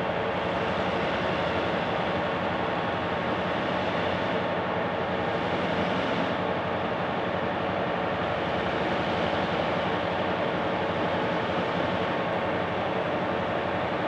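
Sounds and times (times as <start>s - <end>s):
diesel locomotive engines droning: 0.0s - 14.0s.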